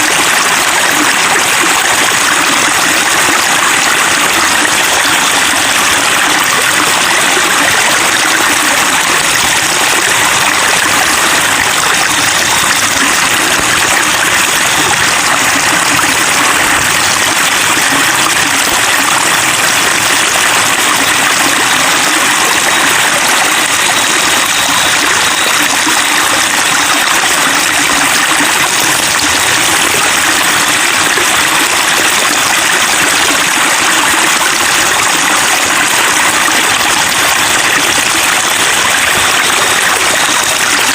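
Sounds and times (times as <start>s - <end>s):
stream babbling over rocks: 0.0s - 40.9s.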